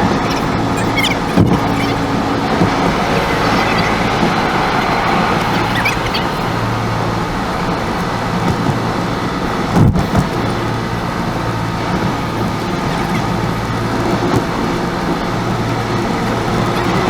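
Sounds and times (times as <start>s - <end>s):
car tyres and engine: 0.0s - 17.0s.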